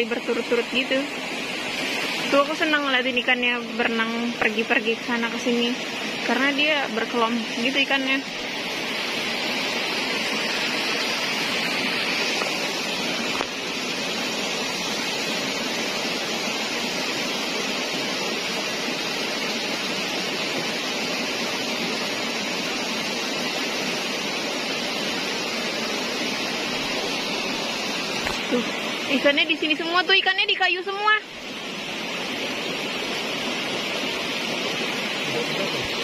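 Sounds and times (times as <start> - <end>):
flowing water rushing: 0.0 - 36.0.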